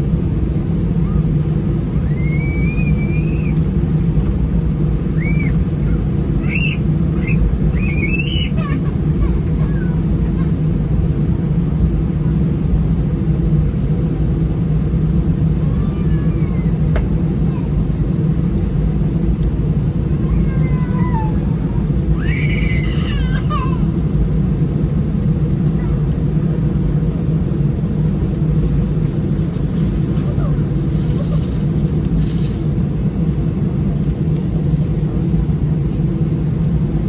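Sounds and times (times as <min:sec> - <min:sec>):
aircraft cabin rumble: 0:00.0 - 0:37.0.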